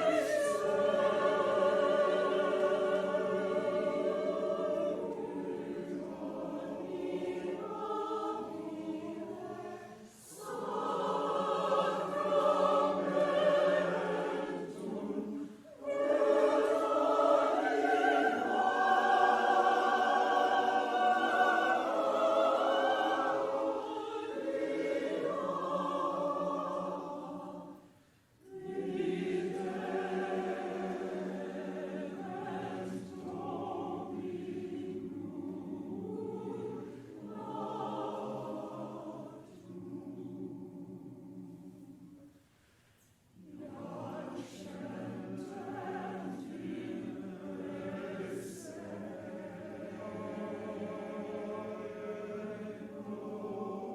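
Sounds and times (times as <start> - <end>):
choir singing: 0.0 - 42.4, 43.3 - 53.9.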